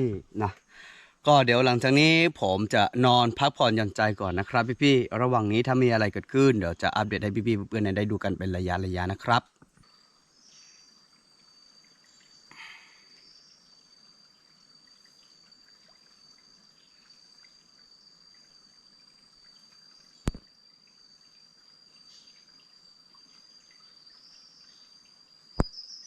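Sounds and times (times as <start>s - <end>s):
faint forest ambience: 0.0s - 26.0s
high-pitched insect trill: 0.0s - 26.0s.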